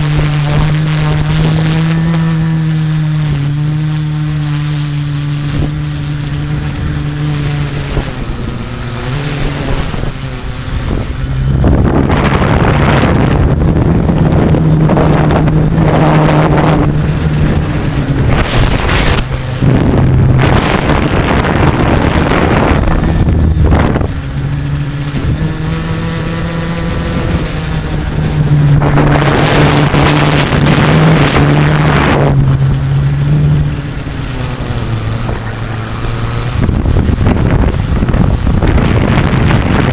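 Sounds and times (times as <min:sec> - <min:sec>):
drone motors humming: 0:00.0 - 0:39.9
wind buffeting on microphone: 0:00.0 - 0:39.9.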